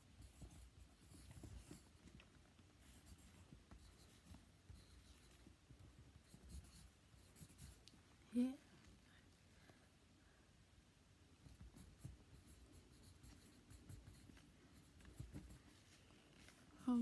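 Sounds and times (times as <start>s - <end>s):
faint scratching and rustling: 0.0s - 9.8s, 11.3s - 17.0s.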